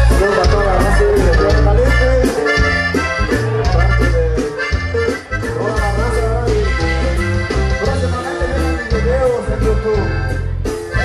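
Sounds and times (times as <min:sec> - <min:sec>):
live band playing dance music: 0:00.0 - 0:11.0.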